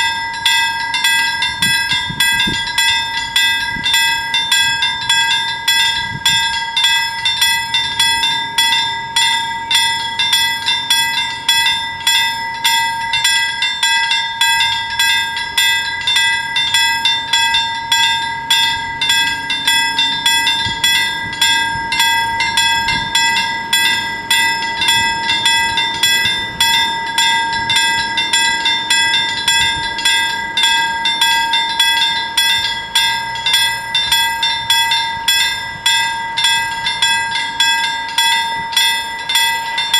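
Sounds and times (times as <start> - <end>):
level crossing bells ringing: 0.0 - 39.9.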